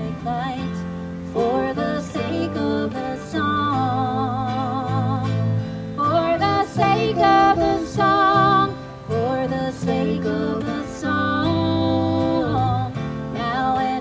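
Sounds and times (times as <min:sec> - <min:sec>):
guitar accompaniment: 0:00.0 - 0:14.0
person singing with vibrato: 0:00.0 - 0:14.0.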